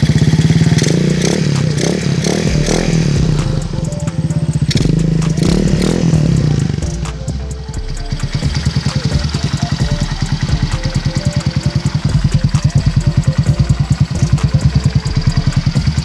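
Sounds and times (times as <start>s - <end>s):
scooter engine idling: 0.0s - 16.0s.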